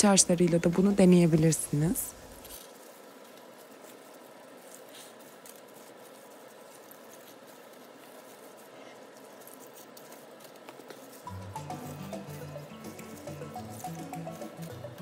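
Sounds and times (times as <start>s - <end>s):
faint rustling of baking paper: 0.0s - 15.0s.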